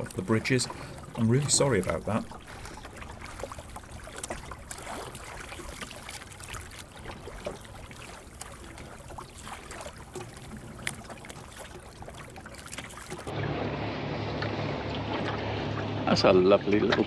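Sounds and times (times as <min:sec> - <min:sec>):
water splashing along boat hull: 0:00.0 - 0:17.0.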